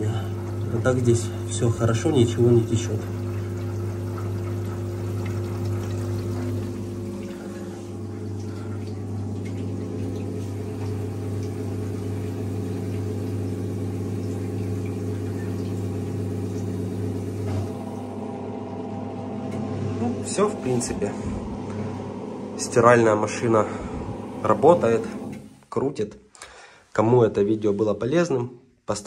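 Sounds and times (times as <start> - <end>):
water rushing: 0.0 - 25.5
drain pump humming: 0.0 - 25.6.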